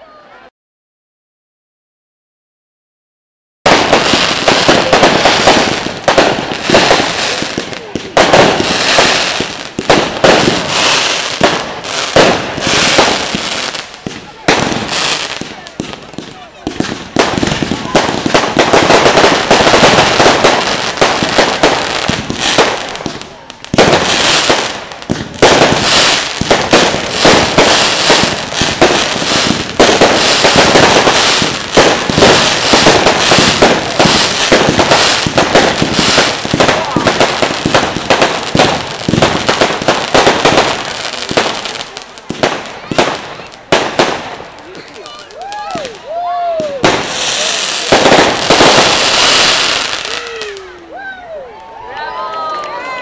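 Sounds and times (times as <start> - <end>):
fireworks banging: 3.6 - 50.8
fireworks crackling: 3.6 - 53.0.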